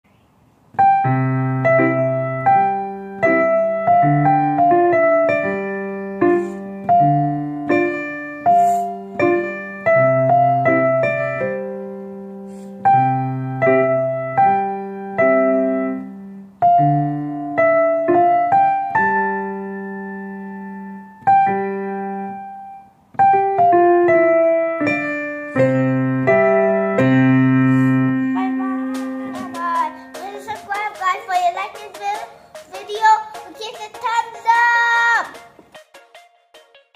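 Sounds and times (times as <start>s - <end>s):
piano duet: 0.7s - 35.9s.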